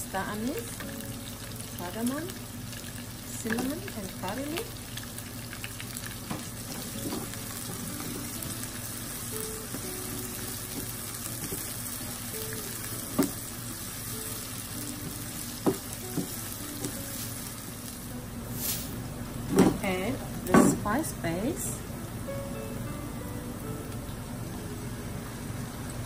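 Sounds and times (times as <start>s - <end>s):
onions and spices sizzling in oil: 0.0s - 26.0s.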